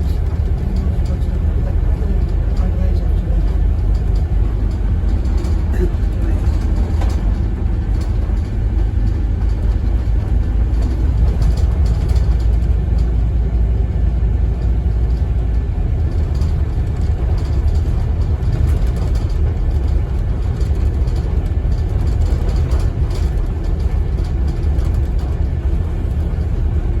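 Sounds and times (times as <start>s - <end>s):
faint rattles: 0.0s - 26.9s
bus diesel engine rumble: 0.0s - 27.0s
road noise: 0.0s - 27.0s.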